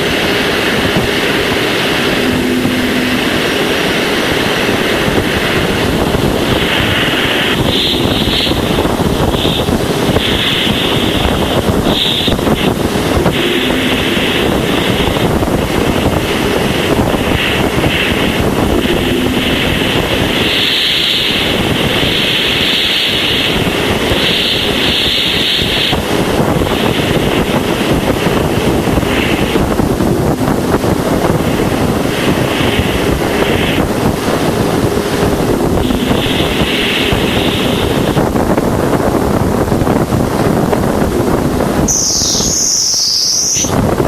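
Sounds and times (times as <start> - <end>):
higher wavering band: 0.0 - 22.0, 28.6 - 44.0
faint constant tone: 0.0 - 44.0
steady loud hiss: 0.0 - 44.0.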